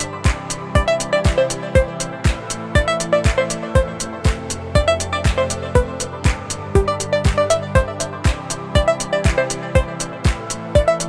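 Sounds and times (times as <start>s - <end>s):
upbeat electronic music: 0.0s - 11.0s.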